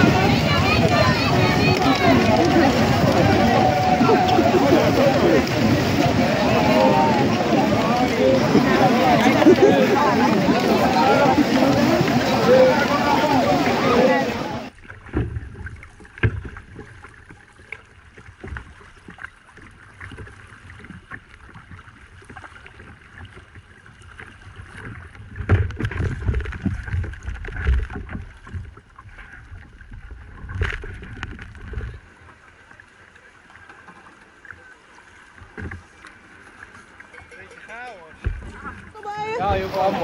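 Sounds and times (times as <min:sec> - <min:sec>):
water splashing: 0:00.0 - 0:40.0.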